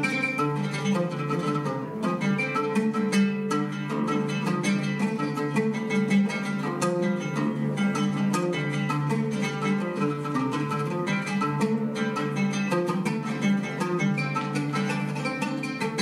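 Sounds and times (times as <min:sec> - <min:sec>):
oud playing plucked notes: 0:00.0 - 0:16.0.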